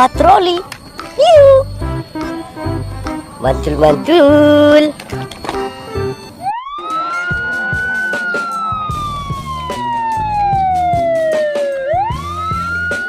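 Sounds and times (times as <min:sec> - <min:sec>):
music with steady beat: 0:00.0 - 0:06.3, 0:06.9 - 0:13.0
police siren wailing: 0:00.0 - 0:13.0.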